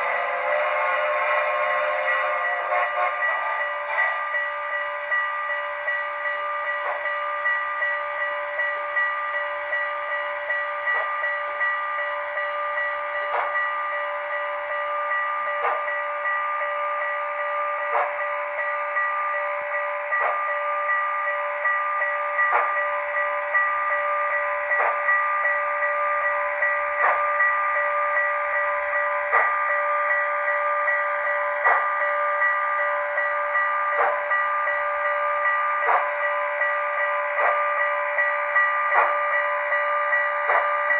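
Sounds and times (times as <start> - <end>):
model steam locomotive chuffing: 0.0 - 40.9.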